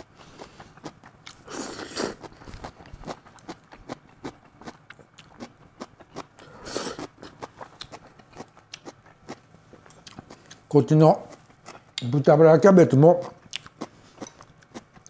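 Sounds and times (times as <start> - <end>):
person chewing food: 0.0 - 12.1, 13.2 - 15.0.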